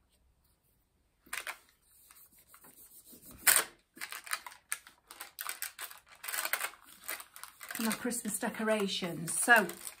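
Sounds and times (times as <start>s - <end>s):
paper crinkling and rustling: 1.3s - 10.0s.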